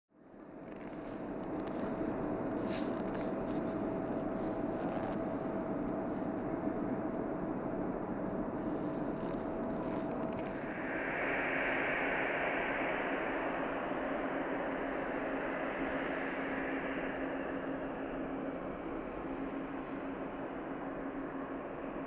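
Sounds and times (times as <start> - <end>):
faint constant hum: 0.2 - 22.0.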